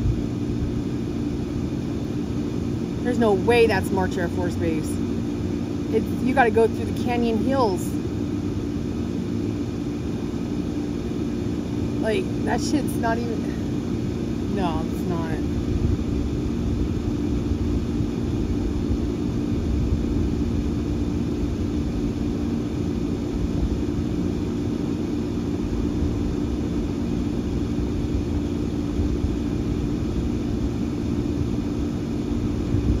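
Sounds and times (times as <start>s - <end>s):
engine rumble: 0.0s - 33.0s.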